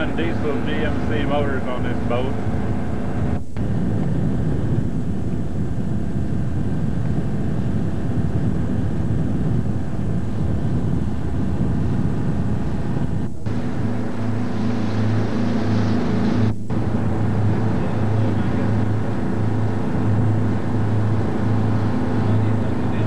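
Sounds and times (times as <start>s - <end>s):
boat engine running: 0.0s - 23.0s
wind noise on microphone: 0.0s - 23.0s.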